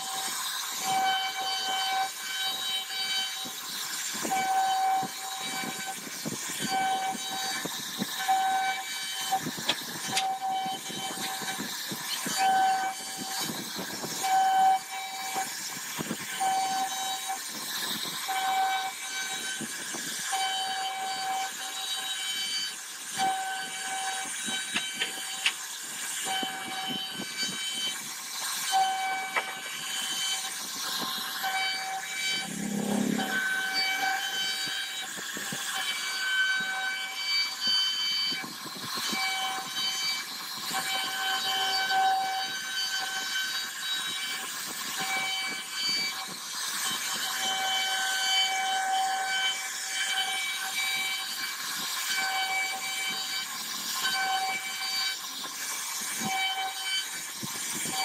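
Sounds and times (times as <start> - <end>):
router spindle whining: 0.0 - 58.0
wood being cut hiss: 0.0 - 58.0.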